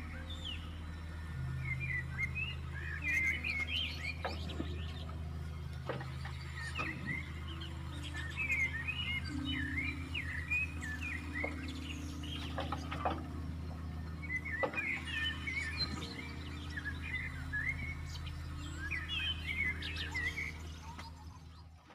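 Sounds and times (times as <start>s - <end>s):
low engine hum: 0.0s - 21.9s
small birds chirping: 0.0s - 21.9s.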